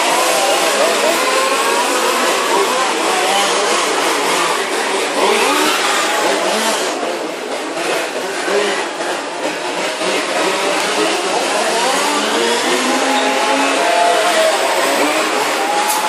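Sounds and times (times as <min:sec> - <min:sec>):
small two-stroke engines revving: 0:00.0 - 0:16.0.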